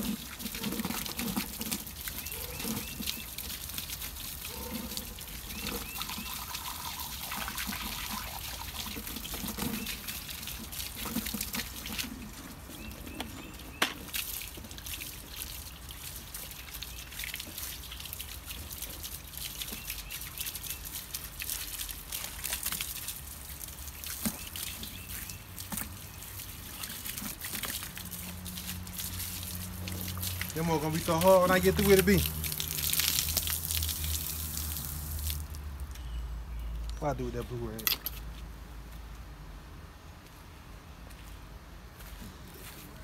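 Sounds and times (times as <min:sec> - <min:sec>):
hose spraying water on wheel: 0:00.0 - 0:35.4
water trickling on concrete: 0:00.0 - 0:39.3.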